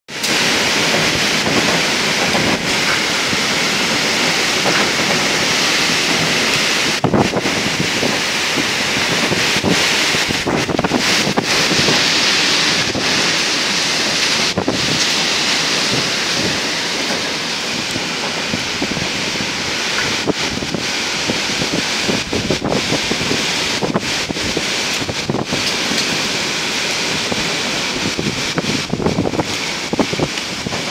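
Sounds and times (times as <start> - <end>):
storm wind gusting through trees: 0.1 - 30.9.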